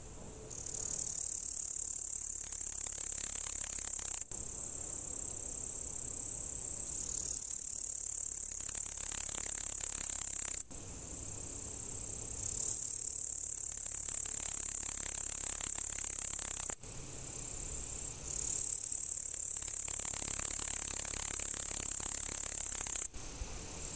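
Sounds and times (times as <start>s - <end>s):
bush-cricket buzzing trill: 0.0s - 23.9s.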